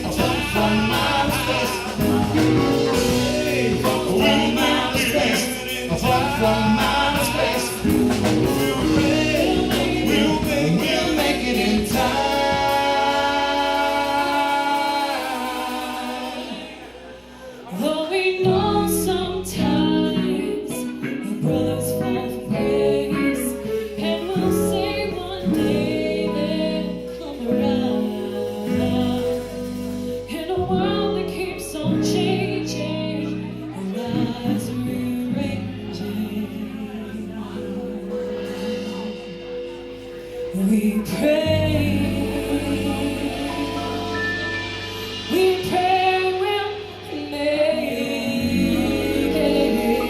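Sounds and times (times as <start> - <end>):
group singing: 0.0 - 32.8, 33.5 - 50.0
funk band playing: 0.0 - 50.0.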